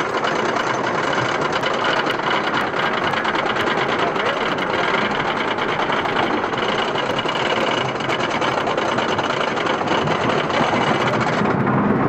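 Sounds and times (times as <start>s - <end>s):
roller coaster lift chain clatter: 0.0s - 12.0s.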